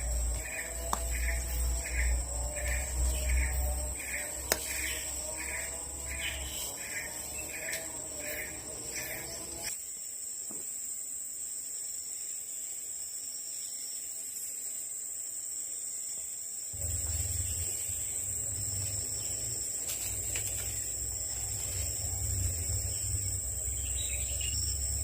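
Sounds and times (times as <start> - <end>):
insects droning high-pitched: 0.0 - 25.0
repeating insect call: 0.0 - 25.0.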